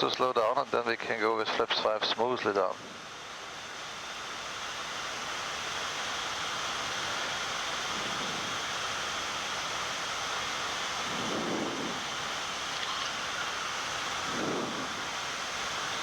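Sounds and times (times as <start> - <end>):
rushing airflow in cockpit: 2.7 - 16.0.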